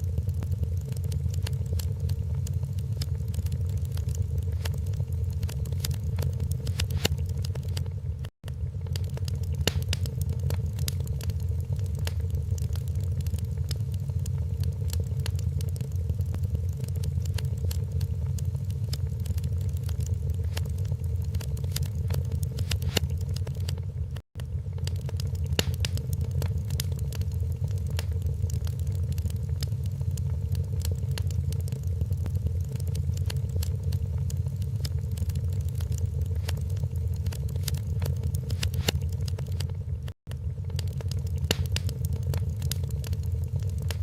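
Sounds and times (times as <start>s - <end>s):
low rumble of flames: 0.0s - 44.0s
wood fire crackling and popping: 0.0s - 44.0s.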